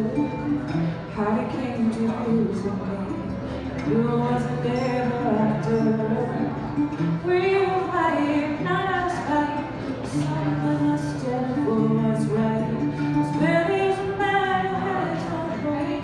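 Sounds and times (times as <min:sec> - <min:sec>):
strummed string instrument: 0:00.0 - 0:16.0
woman singing into a microphone: 0:00.0 - 0:16.0.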